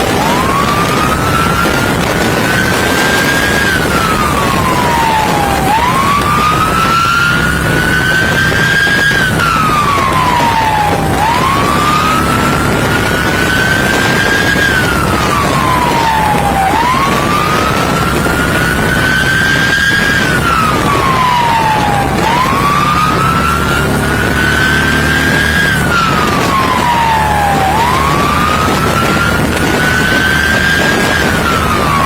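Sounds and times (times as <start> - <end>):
engine and road noise: 0.0 - 32.0
police siren wailing: 0.0 - 32.0.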